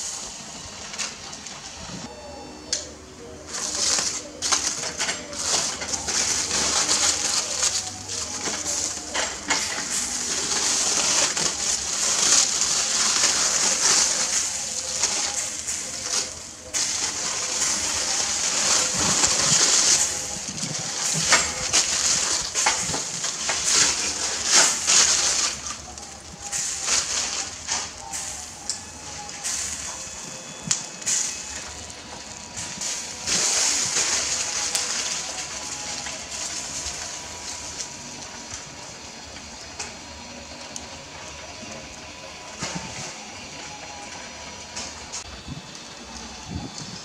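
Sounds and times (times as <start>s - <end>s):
aluminium foil crinkling: 2.8s - 41.8s.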